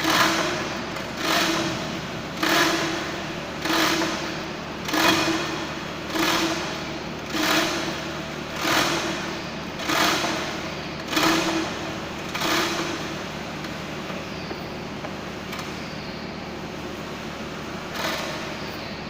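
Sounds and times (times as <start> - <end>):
hand crane hoist rasping strokes: 0.0 - 15.9, 16.7 - 19.0.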